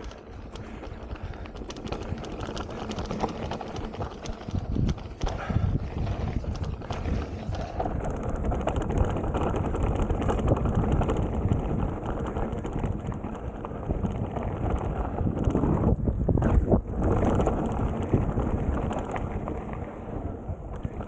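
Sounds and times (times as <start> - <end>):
tyres crunching on gravel: 0.0 - 20.1
bike rattling and knocking: 0.0 - 21.0
wind rumbling on microphone: 0.0 - 21.0.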